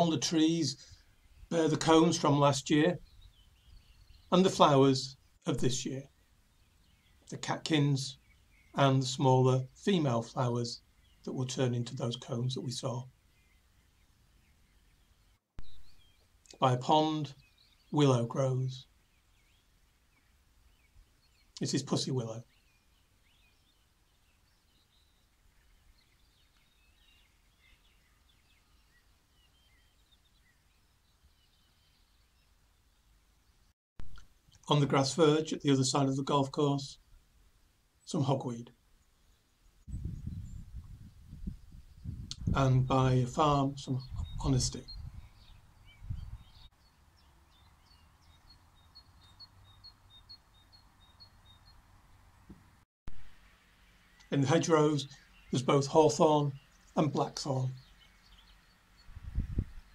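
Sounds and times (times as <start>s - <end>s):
faint birdsong: 0.0s - 59.9s
songbird chirping: 0.0s - 59.9s.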